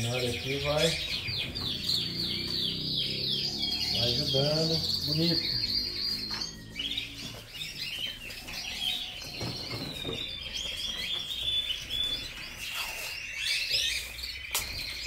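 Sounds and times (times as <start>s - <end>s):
canaries singing: 0.0s - 15.0s.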